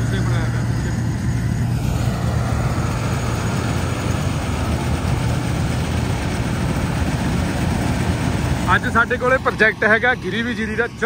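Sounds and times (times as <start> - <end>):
combine harvester humming: 0.0 - 11.0.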